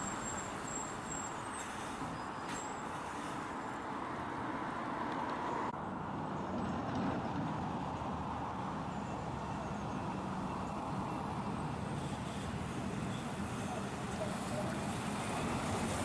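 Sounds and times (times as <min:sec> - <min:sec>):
lorry diesel engine: 0:00.0 - 0:16.0
tyre noise on road: 0:00.0 - 0:16.0.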